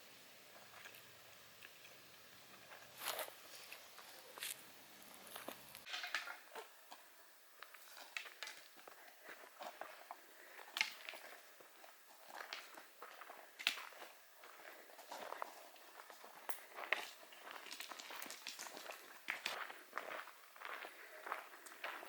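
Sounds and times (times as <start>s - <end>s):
footsteps on a trail: 2.5s - 5.9s, 7.6s - 22.0s.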